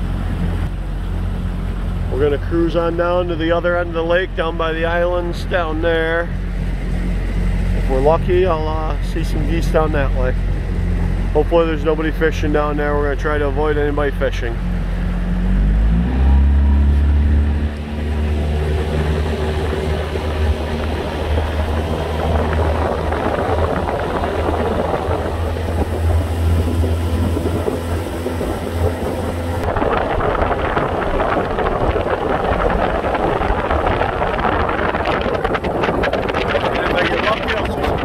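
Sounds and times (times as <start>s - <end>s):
boat motor running: 0.0s - 38.0s
wind and water rushing: 0.0s - 38.0s.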